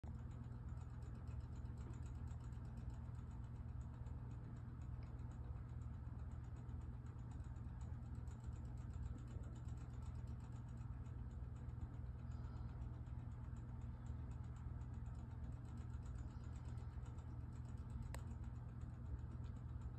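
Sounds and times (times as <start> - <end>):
low hum: 0.1 - 19.9.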